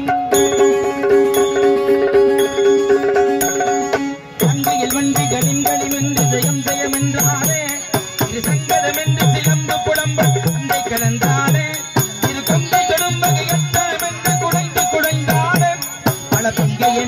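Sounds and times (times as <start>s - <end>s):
hand drums in fast rhythm: 0.0s - 17.0s
held melody: 0.0s - 17.0s
small bell-like cymbals: 0.0s - 17.0s.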